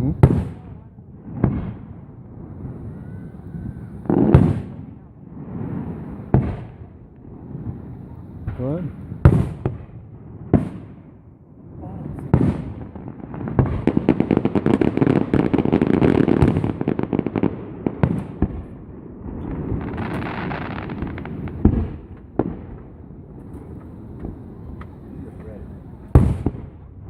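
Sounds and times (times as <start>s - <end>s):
fireworks booming: 0.0s - 27.0s
fireworks crackling: 0.0s - 27.0s.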